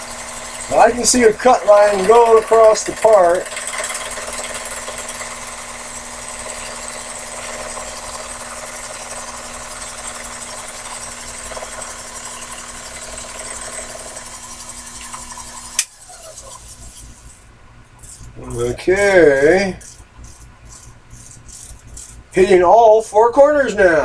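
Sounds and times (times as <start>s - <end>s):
lathe motor humming: 0.0s - 24.0s.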